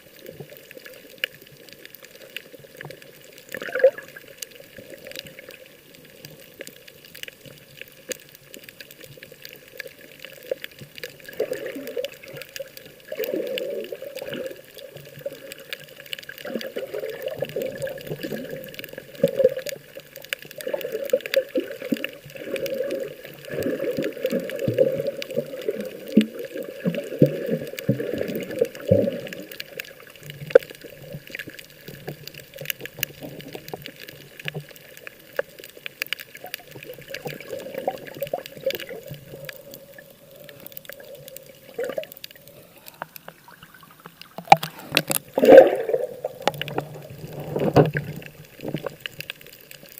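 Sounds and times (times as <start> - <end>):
sea water sloshing and splashing: 0.0 - 49.9.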